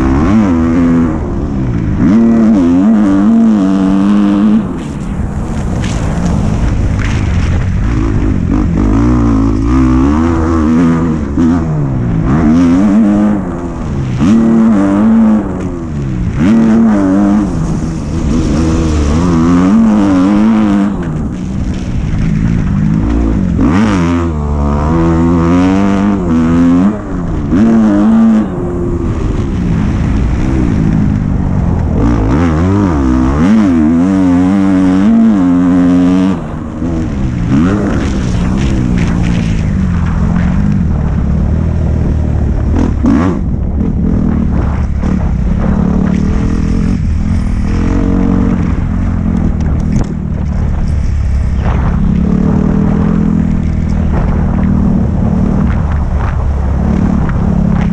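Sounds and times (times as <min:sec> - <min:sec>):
dirt bike engine: 0:00.0 - 0:57.9
wind noise: 0:00.0 - 0:57.9.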